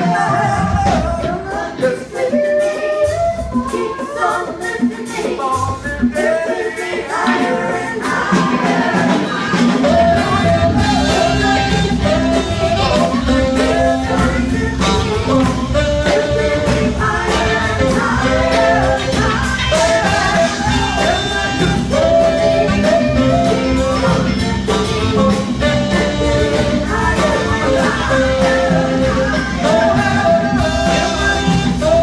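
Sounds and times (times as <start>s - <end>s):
bass guitar: 0.0s - 2.2s, 7.3s - 32.0s
drum kit: 0.0s - 32.0s
electric and acoustic guitars: 0.0s - 32.0s
lead and backing vocals: 0.0s - 32.0s.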